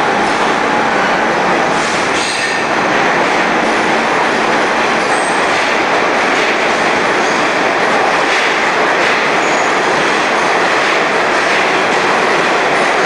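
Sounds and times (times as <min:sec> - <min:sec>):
train clatter: 0:00.0 - 0:13.0
train wheels running on rail: 0:00.0 - 0:13.0.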